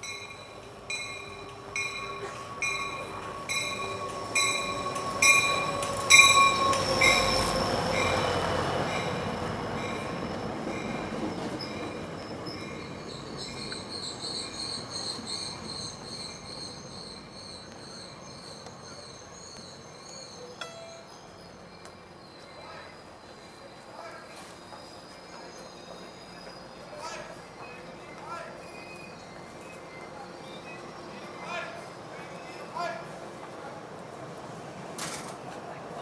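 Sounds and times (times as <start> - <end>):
train clanks: 0.0 - 36.0
train wheels squealing on rails: 0.0 - 36.0.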